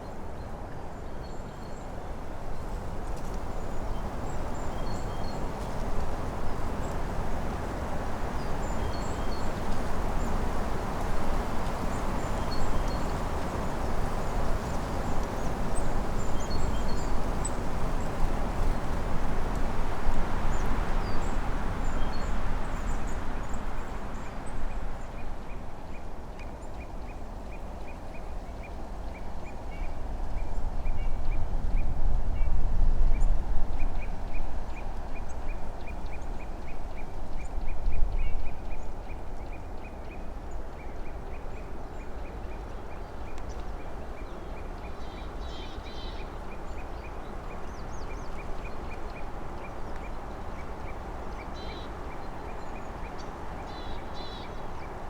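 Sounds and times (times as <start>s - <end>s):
low rumbling forest ambience: 0.0s - 55.0s.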